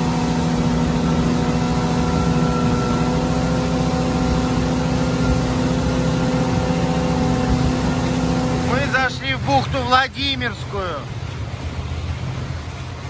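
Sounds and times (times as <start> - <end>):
motorboat engine drone: 0.0 - 13.0
rushing water: 0.0 - 13.0
wind: 0.0 - 13.0.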